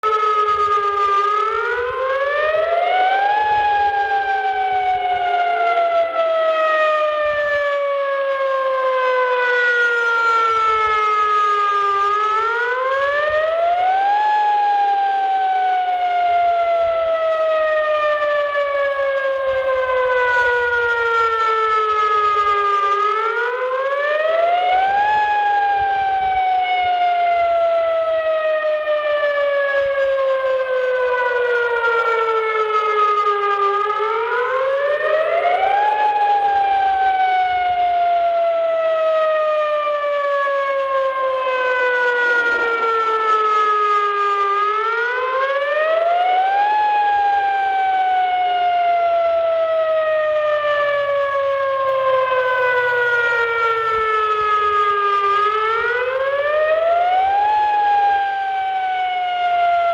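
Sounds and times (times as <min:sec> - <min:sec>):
tornado warning siren: 0:00.0 - 0:59.9.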